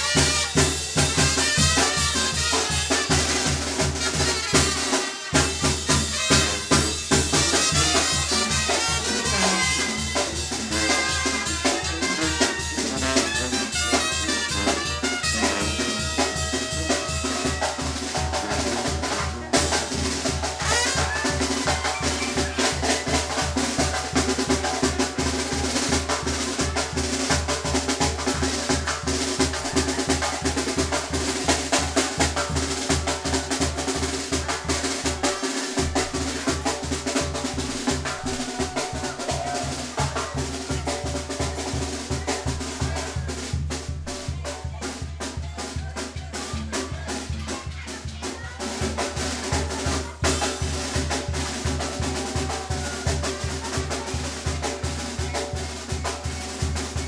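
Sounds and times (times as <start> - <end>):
brass band playing dance music: 0.0 - 57.0.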